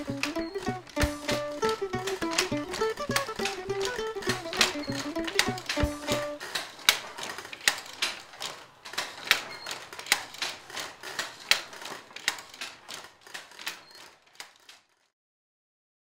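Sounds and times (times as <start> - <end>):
rhythmic mechanical clacking: 0.0 - 14.5.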